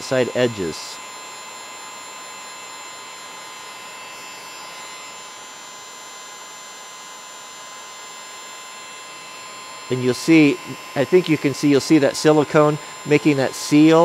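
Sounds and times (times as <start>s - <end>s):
heat gun whining: 0.0s - 14.0s.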